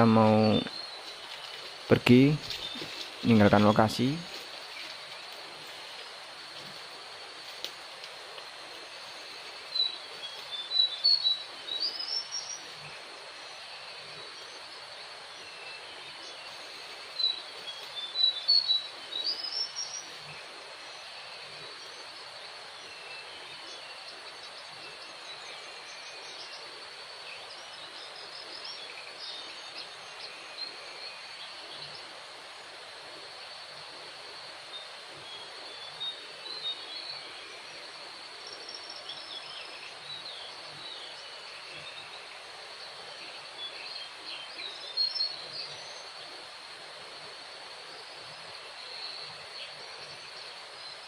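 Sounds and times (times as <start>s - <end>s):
insect hum: 0.0s - 51.0s.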